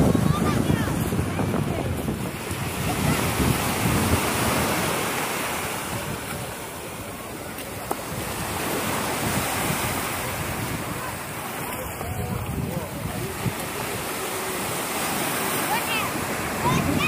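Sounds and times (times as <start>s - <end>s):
waves washing up pebble beach: 0.1s - 17.0s.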